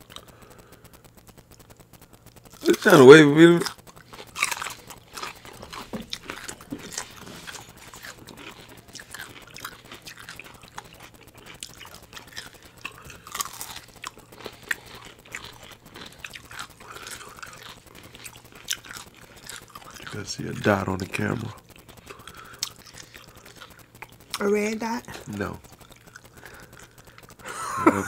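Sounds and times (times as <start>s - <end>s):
crunchy clicks: 0.0s - 27.4s
chewing and biting: 1.2s - 24.4s, 25.0s - 27.4s.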